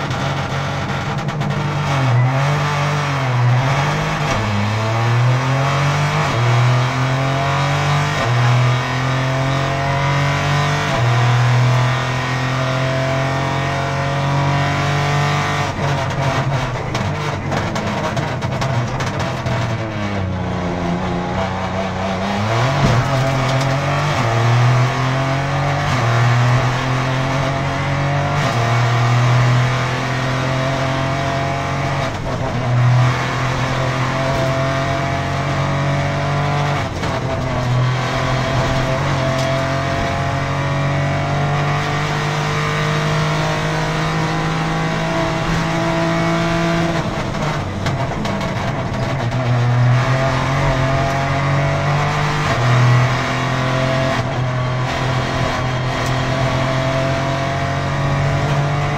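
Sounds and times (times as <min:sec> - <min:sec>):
car engine under full throttle: 0:00.0 - 0:58.9
road and tyre noise: 0:00.0 - 0:58.9.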